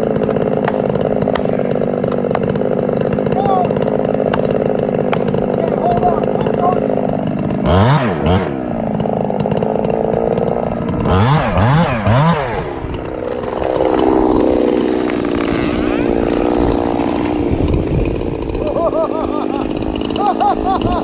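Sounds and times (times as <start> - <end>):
chainsaw engine revving: 0.0 - 21.0.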